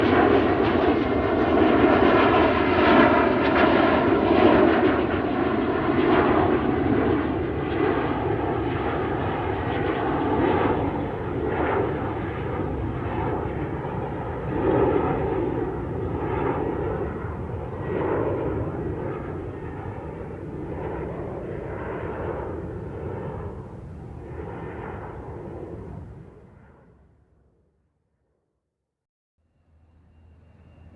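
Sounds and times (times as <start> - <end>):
airliner engine and airflow noise: 0.0 - 27.9, 29.4 - 30.9.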